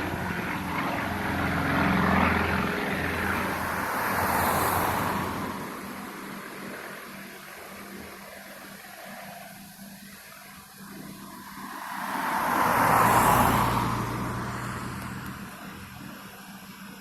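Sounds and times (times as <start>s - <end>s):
aircraft engine passing overhead: 0.0s - 17.0s.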